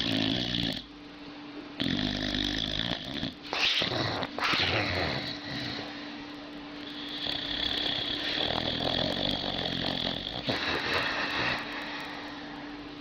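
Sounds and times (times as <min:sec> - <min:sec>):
dog snoring: 0:00.0 - 0:00.9, 0:01.8 - 0:06.1, 0:06.8 - 0:12.1.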